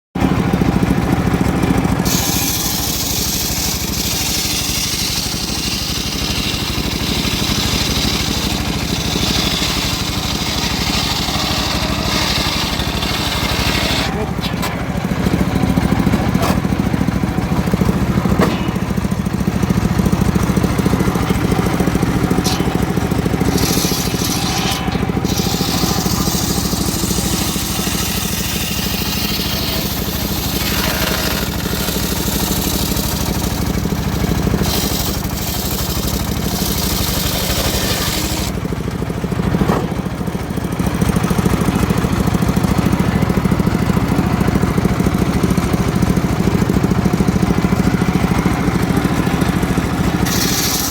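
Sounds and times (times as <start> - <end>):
sawmill engine running: 0.2 - 50.9
saw blade cutting wood: 1.7 - 45.3, 46.0 - 50.9.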